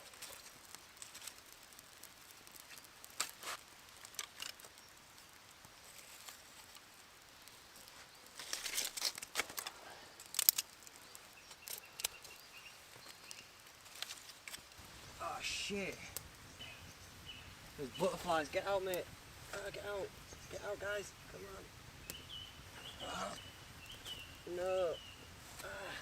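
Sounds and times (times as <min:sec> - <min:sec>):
fire pops: 0:00.0 - 0:26.0
kindling fire crackling: 0:00.0 - 0:26.0.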